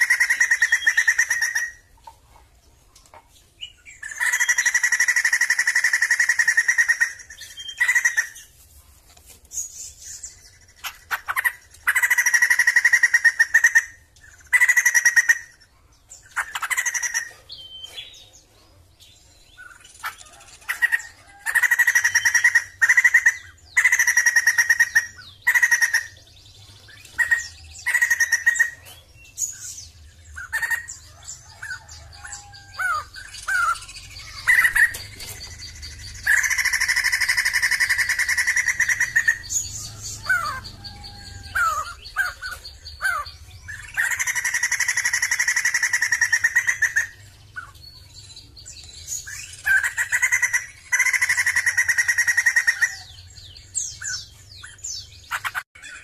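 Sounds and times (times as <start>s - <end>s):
bird singing ringing calls: 0.0s - 8.6s, 9.5s - 56.0s.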